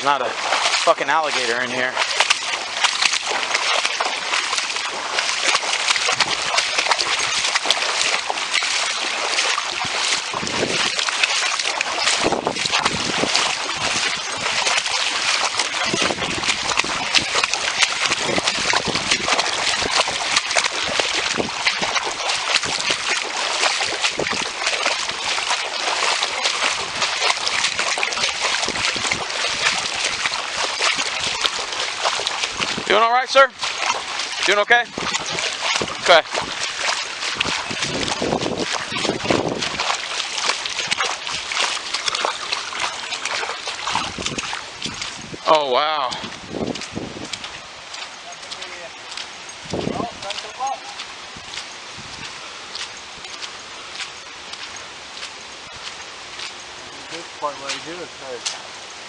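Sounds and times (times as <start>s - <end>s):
wading through water sloshing: 0.0s - 59.0s.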